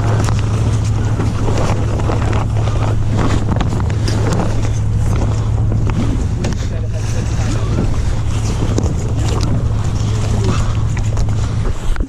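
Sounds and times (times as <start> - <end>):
steady low hum: 0.0 - 12.0
water rushing past boat hull: 0.0 - 12.0
wind buffeting microphone: 0.0 - 12.0.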